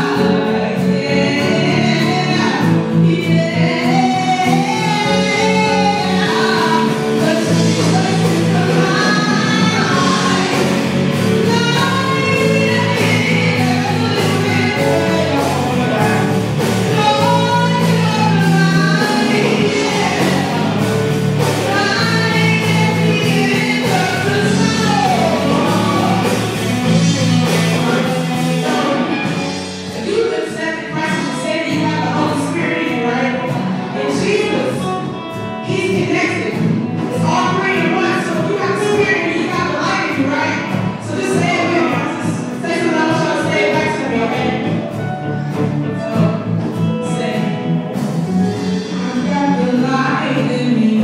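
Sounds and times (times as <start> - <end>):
woman singing gospel: 0.0 - 47.7, 48.3 - 51.0
live band accompaniment: 0.0 - 51.0.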